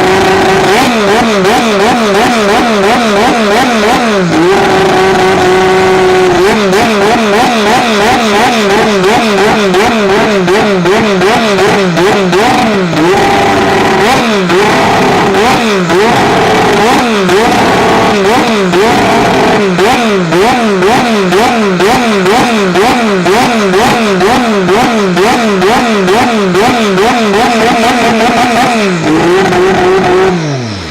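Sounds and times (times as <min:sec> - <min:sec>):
racing car engine revving: 0:00.0 - 0:30.9.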